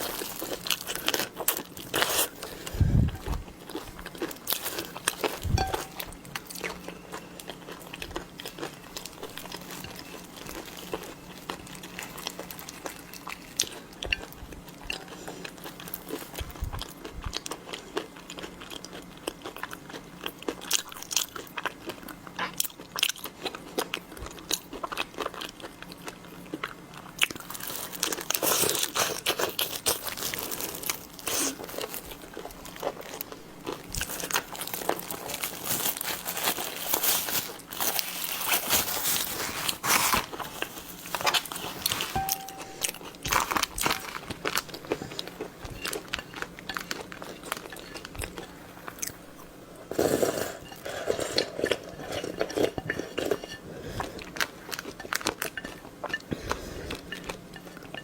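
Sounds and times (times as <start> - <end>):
person crunching and chewing: 0.0 - 58.0.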